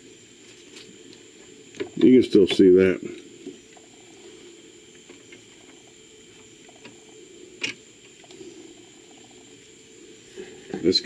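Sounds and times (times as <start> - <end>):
milling machine motor hum: 0.0 - 11.0.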